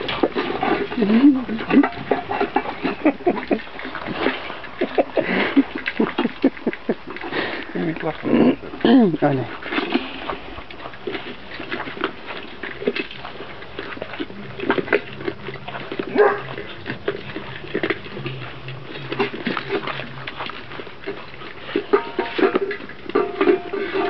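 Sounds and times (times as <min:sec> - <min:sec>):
puppy crunching dry kibble: 0:00.0 - 0:24.0.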